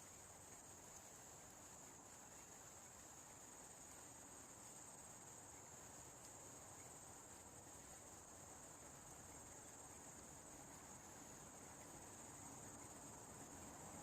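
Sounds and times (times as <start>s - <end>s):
crickets chirping: 0.0s - 14.0s
low background noise: 0.0s - 14.0s.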